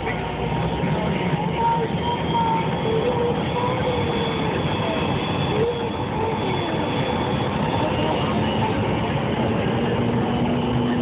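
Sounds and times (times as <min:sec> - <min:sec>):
airliner cabin noise: 0:00.0 - 0:11.0
faint high whine: 0:00.0 - 0:11.0.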